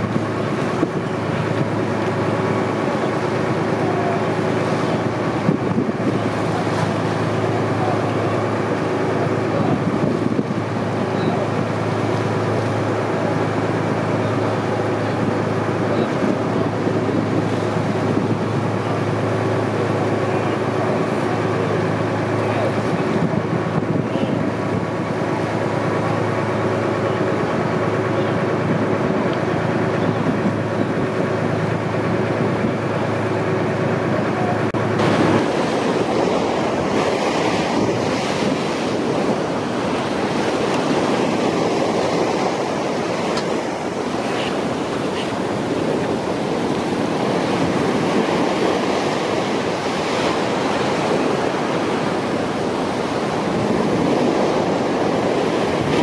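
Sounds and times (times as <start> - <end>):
motorboat engine running: 0.0 - 56.0
water rushing: 0.0 - 56.0
wind on microphone: 0.0 - 56.0.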